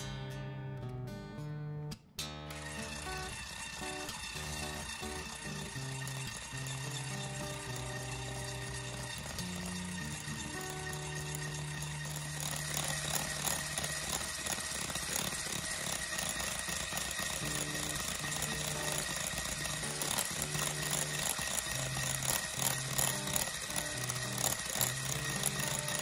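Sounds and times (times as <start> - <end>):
electric hand mixer whining: 2.5 - 26.0.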